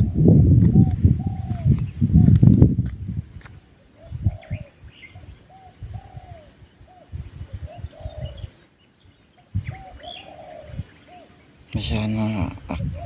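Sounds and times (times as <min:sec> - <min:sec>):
dove cooing: 0:00.0 - 0:02.5, 0:03.8 - 0:08.7, 0:09.4 - 0:13.0
small birds chirping: 0:00.0 - 0:13.0.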